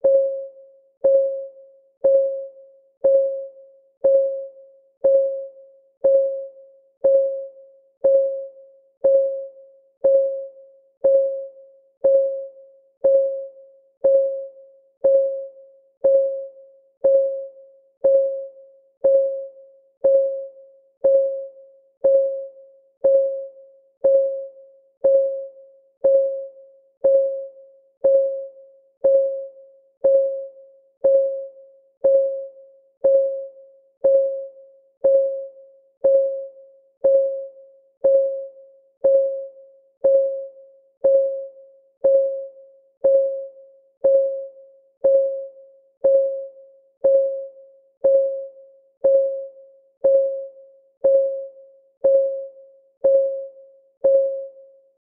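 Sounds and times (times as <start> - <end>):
timer clock ticking: 1.0 - 54.6.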